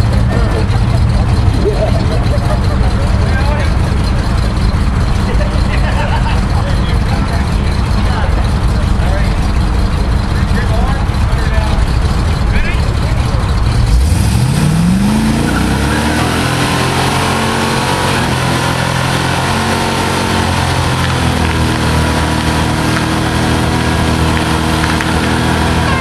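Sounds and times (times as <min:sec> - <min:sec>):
engine revving: 0:00.0 - 0:26.0
tyres spinning on pavement: 0:00.0 - 0:26.0.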